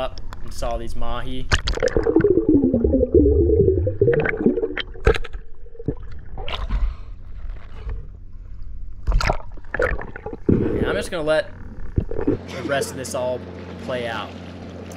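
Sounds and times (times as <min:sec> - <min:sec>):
water gurgling and sloshing: 0:01.4 - 0:14.9.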